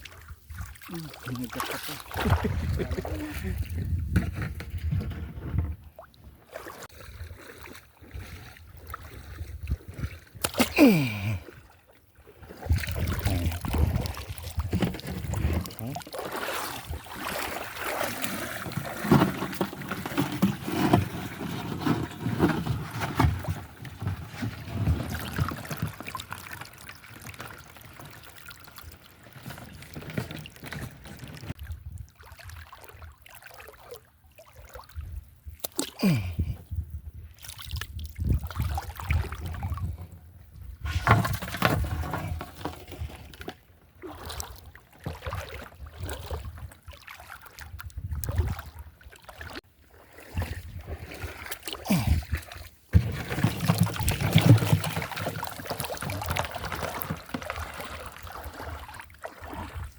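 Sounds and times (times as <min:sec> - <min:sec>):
seawater sloshing and splashing: 0:00.0 - 0:36.3, 0:37.2 - 0:59.9.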